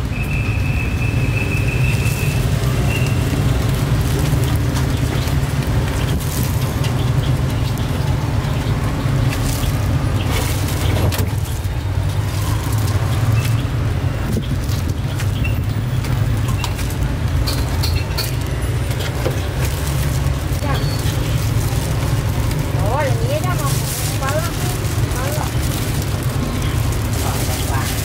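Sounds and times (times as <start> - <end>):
engines and traffic rumble: 0.0 - 28.0.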